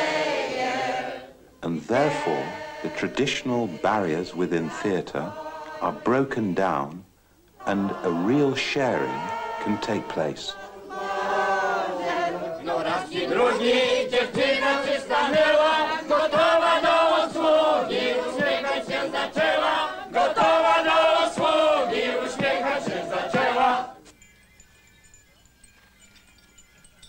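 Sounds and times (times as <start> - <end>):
group chanting chorus: 0.0 - 6.6, 7.6 - 24.0.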